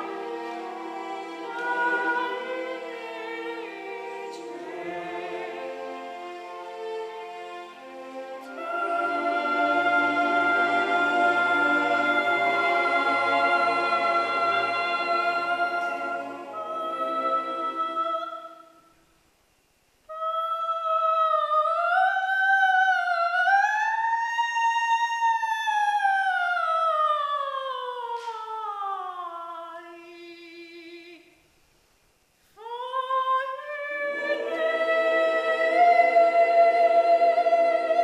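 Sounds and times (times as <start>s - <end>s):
soprano singing opera: 0.0s - 6.6s, 8.4s - 18.9s, 20.1s - 31.4s, 32.6s - 38.0s.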